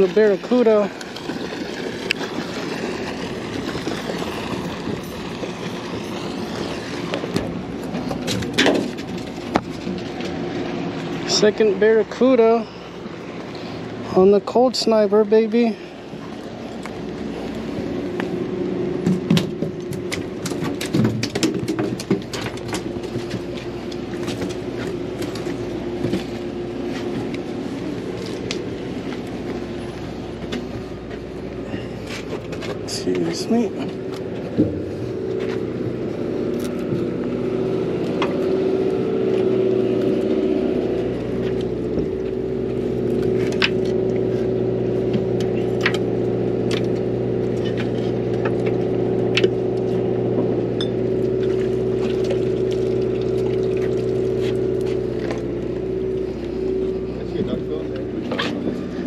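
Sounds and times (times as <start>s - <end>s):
boat engine rumbling: 0.0s - 59.0s.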